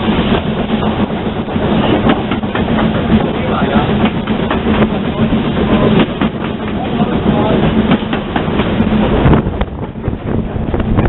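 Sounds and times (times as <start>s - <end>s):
steam locomotive rumble: 0.0s - 11.0s
wheels clattering on rails: 0.0s - 11.0s.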